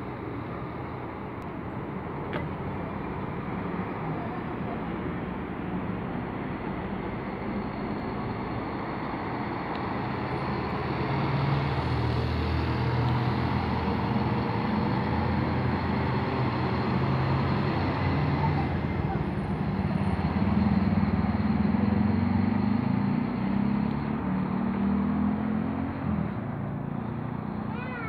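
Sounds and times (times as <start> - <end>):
coach diesel engine: 0.0 - 28.0
road noise: 0.0 - 28.0.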